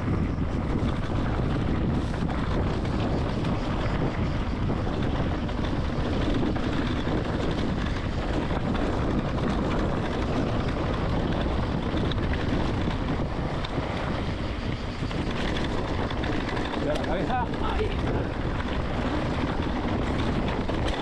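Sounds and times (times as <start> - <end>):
tyres rolling on dirt trail: 0.0 - 21.0
wind buffeting microphone: 0.0 - 21.0.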